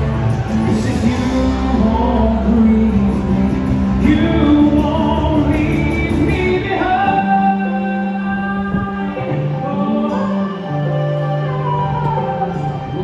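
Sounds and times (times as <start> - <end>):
live rock band playing: 0.0 - 13.0
person singing long notes: 0.0 - 13.0.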